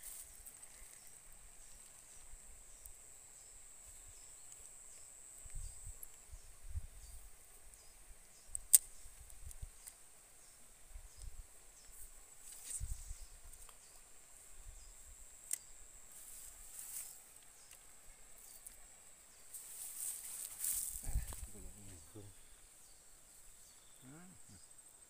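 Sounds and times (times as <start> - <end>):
high thin insect drone: 0.0 - 25.0.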